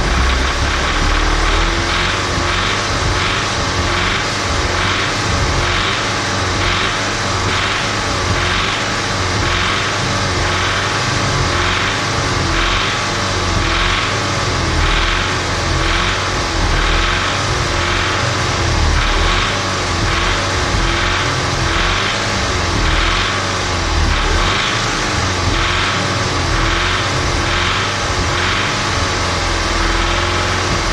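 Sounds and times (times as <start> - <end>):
car engine revving: 0.0 - 30.9
engine knocking clatter: 0.0 - 30.9.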